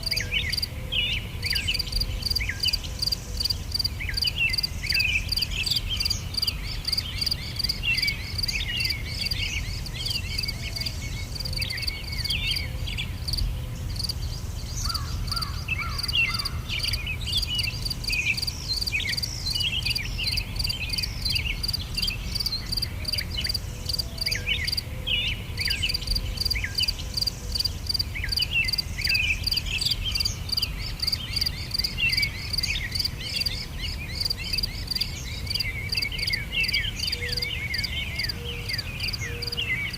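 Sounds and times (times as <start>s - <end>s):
insects calling: 0.0s - 39.9s.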